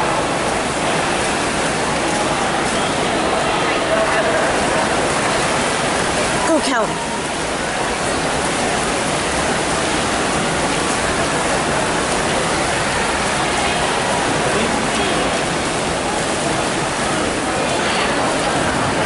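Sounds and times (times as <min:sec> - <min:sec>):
swimmers splashing: 0:00.0 - 0:19.0.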